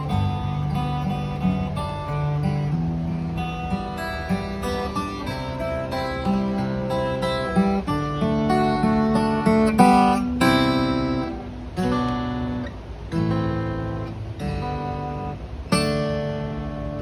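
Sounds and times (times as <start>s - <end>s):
fingerstyle acoustic guitar: 0.0s - 17.0s.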